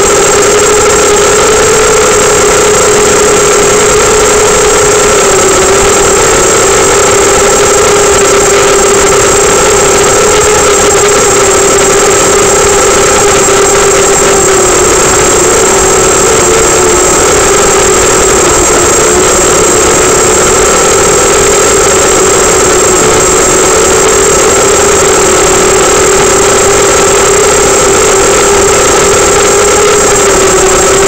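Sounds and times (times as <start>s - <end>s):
quadcopter propellers buzzing: 0.0s - 31.0s.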